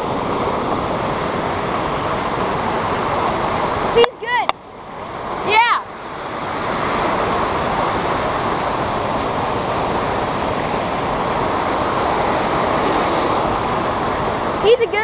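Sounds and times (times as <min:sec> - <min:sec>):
creek water rushing over cascade: 0:00.0 - 0:15.0.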